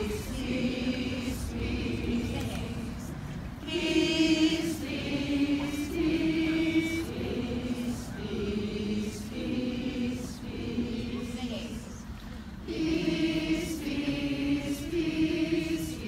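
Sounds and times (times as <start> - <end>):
close voice singing: 0.0 - 12.0, 12.6 - 16.0
crowd singing unaccompanied: 0.0 - 16.0.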